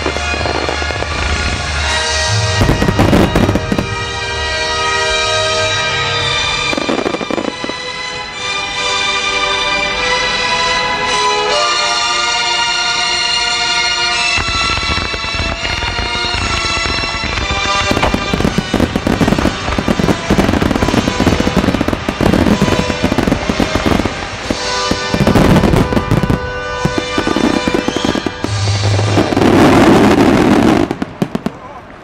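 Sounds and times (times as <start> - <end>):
fireworks bursting and crackling: 0.0 - 8.6, 13.0 - 32.0.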